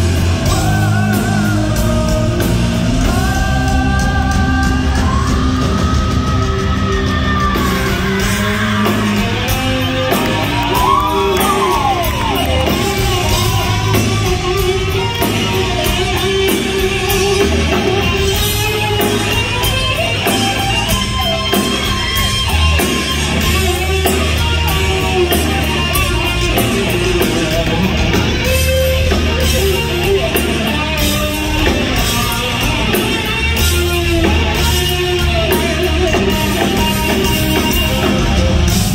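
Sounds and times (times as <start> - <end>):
electric guitar lead: 0.0 - 38.9
live rock band playing: 0.0 - 38.9.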